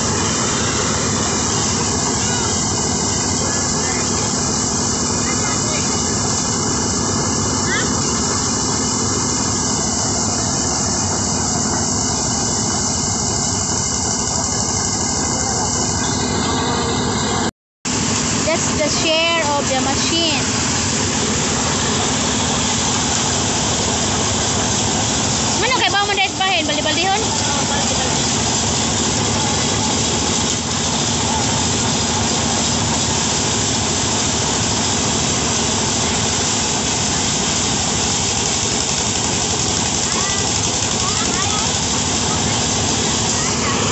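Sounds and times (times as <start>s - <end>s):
harvester engine running: 0.0s - 43.9s.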